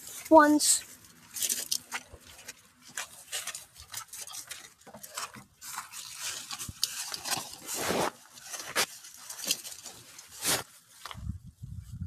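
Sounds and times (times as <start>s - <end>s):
rustling and scuffing: 0.0s - 12.0s.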